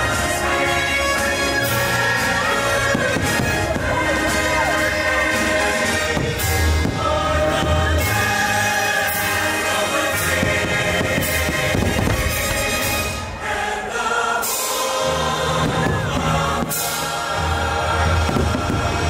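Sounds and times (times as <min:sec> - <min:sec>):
choir singing long notes: 0:00.0 - 0:19.0
orchestral music: 0:00.0 - 0:19.0.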